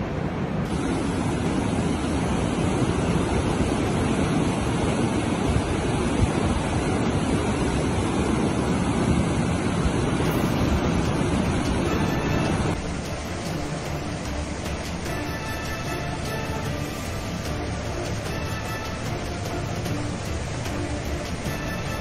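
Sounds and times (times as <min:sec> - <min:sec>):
muddy water rushing: 0:00.0 - 0:22.0.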